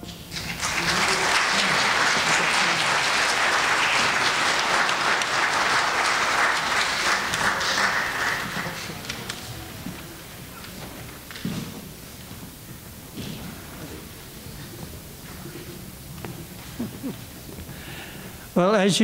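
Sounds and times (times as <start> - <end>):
audience applauding: 0.0 - 11.9, 12.5 - 18.6.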